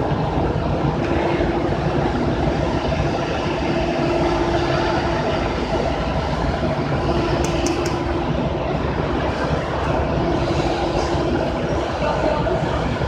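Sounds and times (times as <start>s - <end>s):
machine running with constant hum: 0.0s - 13.0s.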